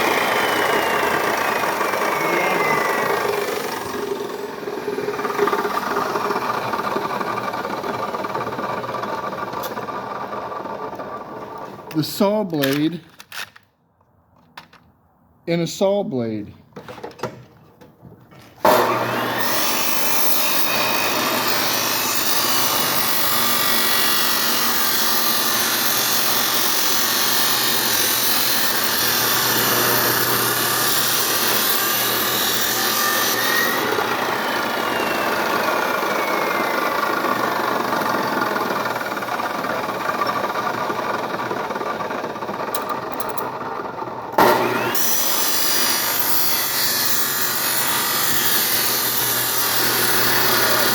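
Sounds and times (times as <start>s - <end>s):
chop saw grinding: 0.0s - 13.6s, 18.6s - 43.6s, 44.4s - 50.9s.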